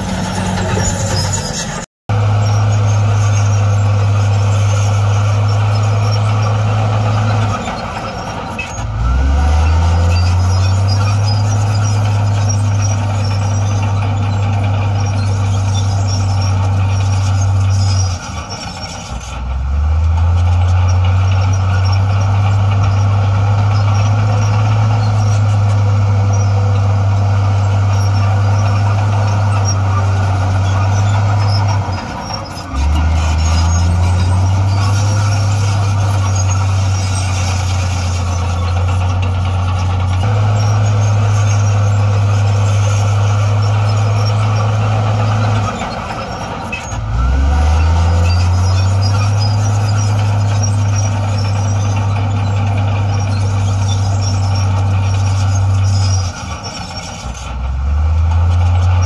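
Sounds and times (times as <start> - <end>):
diesel machinery engine revving: 0.0 - 59.0.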